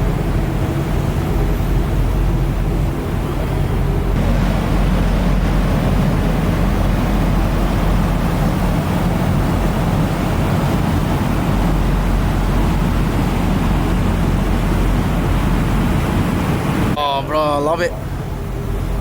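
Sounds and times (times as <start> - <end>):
ferry engines droning: 0.0 - 19.0
wind and water rushing: 0.0 - 19.0.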